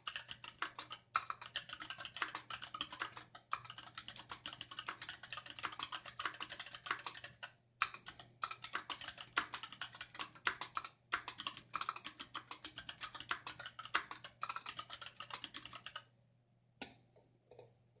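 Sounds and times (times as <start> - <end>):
typing on mechanical keyboard: 0.0 - 16.0.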